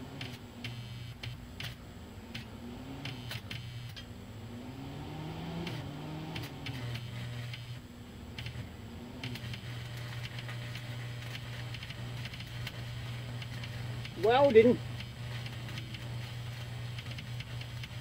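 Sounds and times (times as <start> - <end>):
arc welder electrical hum: 0.0 - 18.0
cooling fan running: 0.0 - 18.0.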